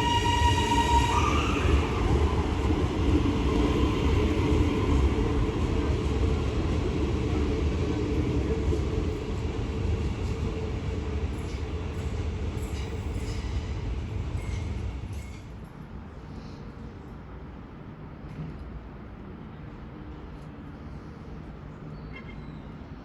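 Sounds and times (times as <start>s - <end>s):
train rumbling past: 0.0s - 21.9s.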